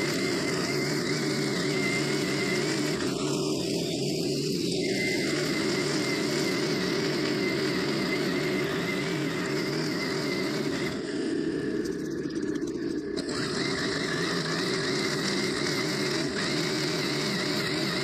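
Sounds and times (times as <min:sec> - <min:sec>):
string trimmer engine running: 0:00.0 - 0:18.0
trimmer line cutting grass: 0:00.0 - 0:18.0.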